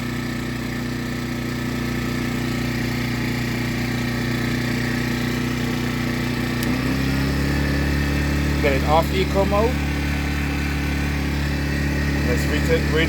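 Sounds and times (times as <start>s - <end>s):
generator running: 0.0s - 13.0s.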